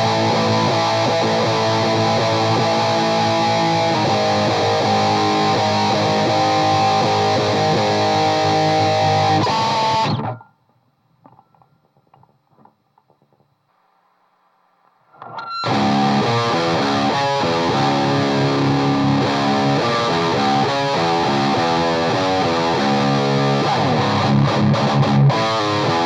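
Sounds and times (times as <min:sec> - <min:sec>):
distorted electric guitar chords: 0:00.0 - 0:10.6, 0:15.2 - 0:26.0.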